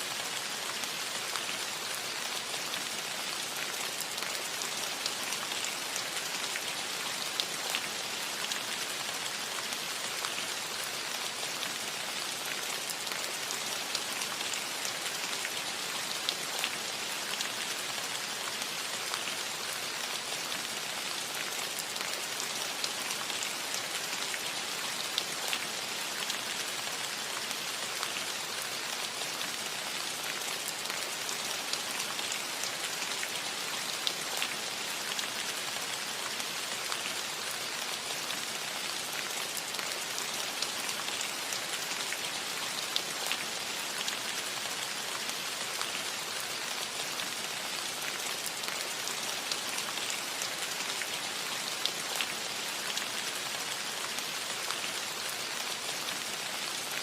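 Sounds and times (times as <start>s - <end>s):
rain on a metal roof: 0.0s - 57.0s.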